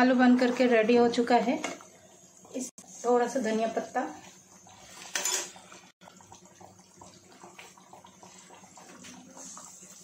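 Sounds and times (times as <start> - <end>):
gravy simmering in a pan: 1.8 - 10.0.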